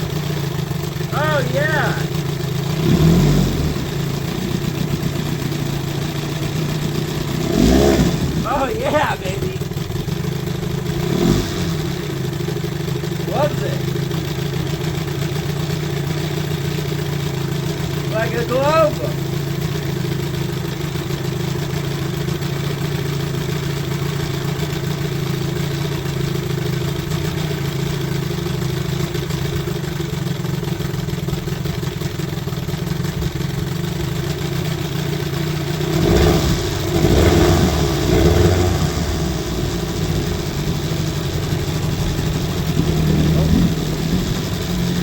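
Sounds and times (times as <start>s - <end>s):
outboard motor running: 0.0s - 45.0s.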